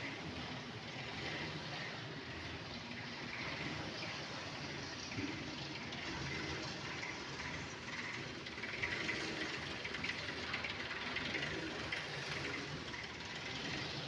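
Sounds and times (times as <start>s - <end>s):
road roller engine running: 0.0s - 14.0s.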